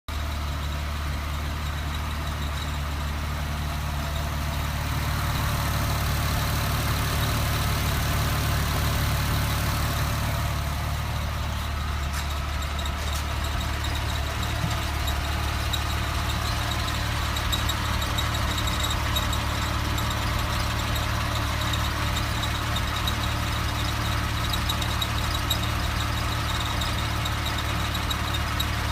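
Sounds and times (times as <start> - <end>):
car engine running: 0.1 - 28.9.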